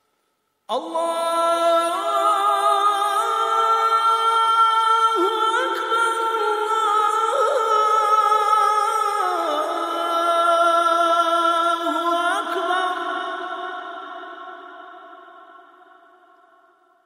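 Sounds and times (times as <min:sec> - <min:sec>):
unaccompanied vocal chanting: 0:00.7 - 0:16.8.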